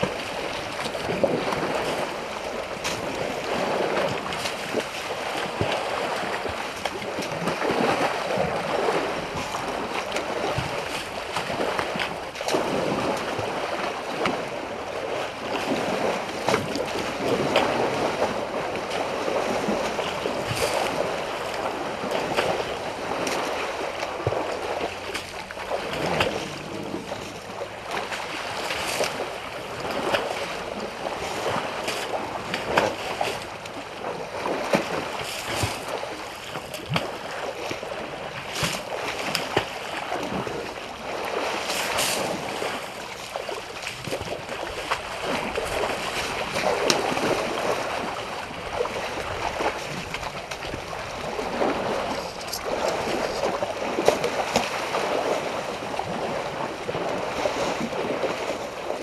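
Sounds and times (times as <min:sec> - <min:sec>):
elephants splashing: 0:00.0 - 0:59.0
water sloshing: 0:00.0 - 0:59.0.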